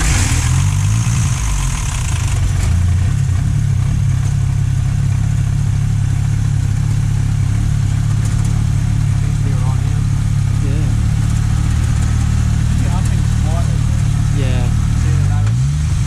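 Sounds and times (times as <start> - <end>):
car engine idling roughly: 0.0 - 16.0.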